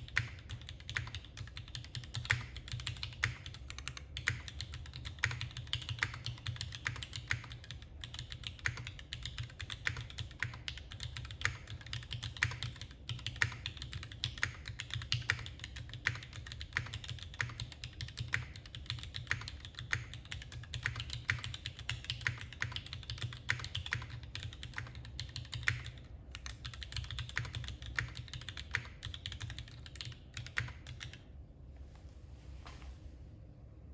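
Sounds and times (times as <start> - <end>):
typing on mechanical keyboard: 0.0 - 31.3.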